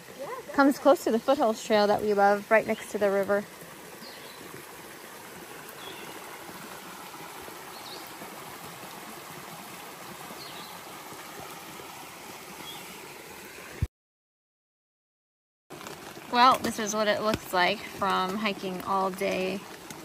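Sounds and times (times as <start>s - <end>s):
creek water rushing: 0.0s - 13.9s, 15.7s - 20.0s.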